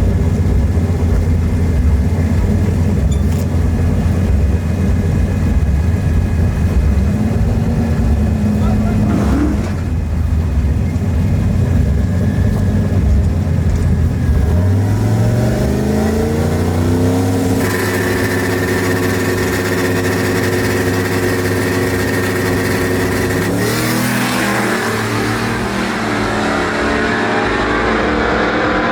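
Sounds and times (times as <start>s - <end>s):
truck engine revving: 0.0s - 28.9s.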